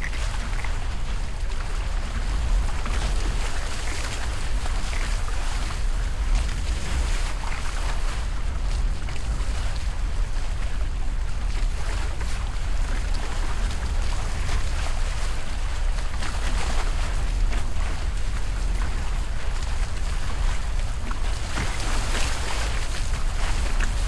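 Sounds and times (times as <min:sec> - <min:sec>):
water splashing along boat hulls: 0:00.0 - 0:24.0
wind buffeting microphone: 0:00.0 - 0:24.0.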